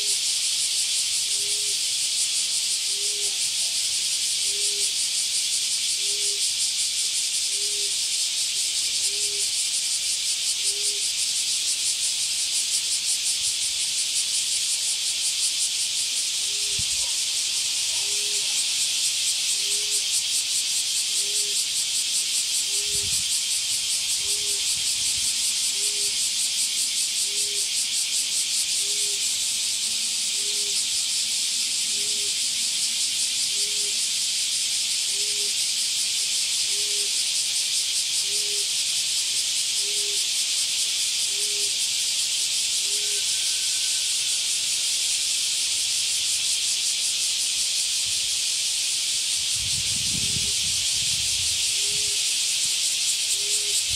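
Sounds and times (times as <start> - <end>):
high insect drone: 0.0 - 53.9.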